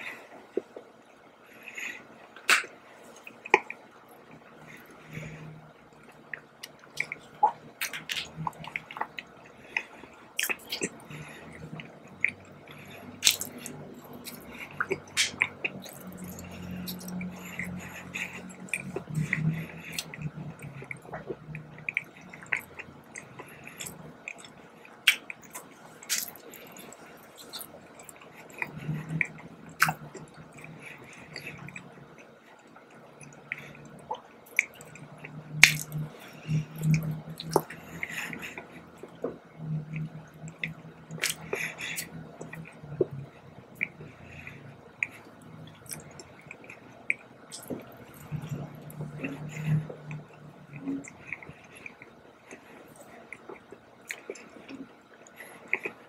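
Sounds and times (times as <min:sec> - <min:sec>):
person chewing donut: 0:01.6 - 0:56.0.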